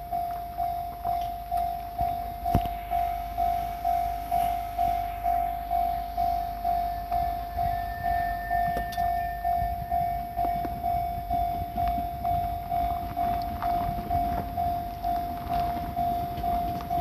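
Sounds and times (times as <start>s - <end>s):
level crossing warning bell: 0.0s - 17.0s.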